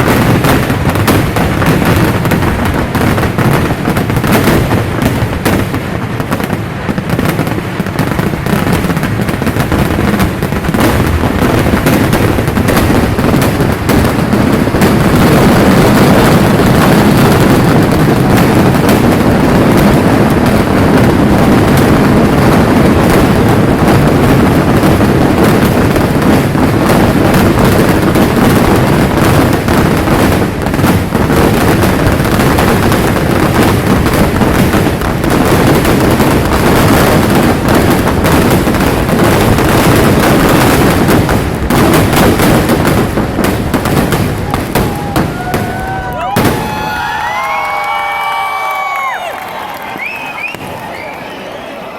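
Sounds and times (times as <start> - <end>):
fireworks barrage rumbling: 0.0 - 51.9.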